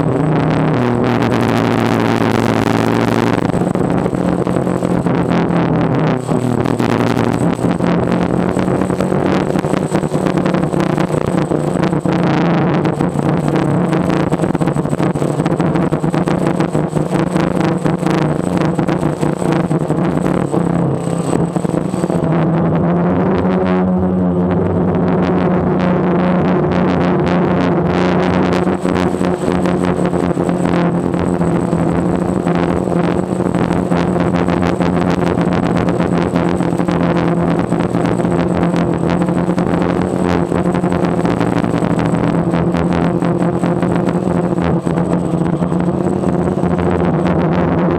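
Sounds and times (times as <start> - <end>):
drone motors whining: 0.0 - 47.9
rapid crackles: 0.0 - 47.9
wind noise: 0.0 - 47.9.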